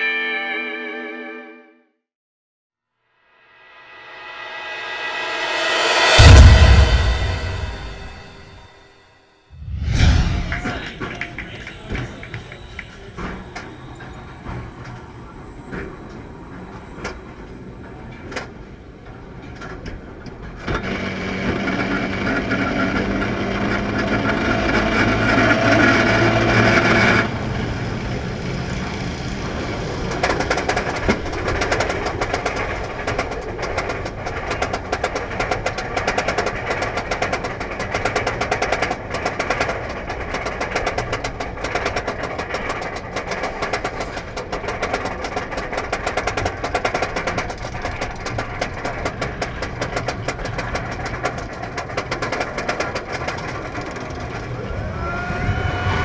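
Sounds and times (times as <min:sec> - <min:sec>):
roller coaster clacking on track: 0:10.4 - 0:56.0.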